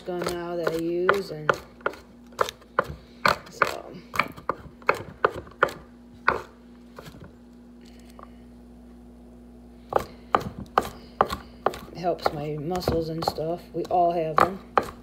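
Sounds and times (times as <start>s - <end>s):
knife chopping on wooden board: 0.0s - 7.2s, 9.9s - 15.0s
steady low hum: 0.0s - 15.0s.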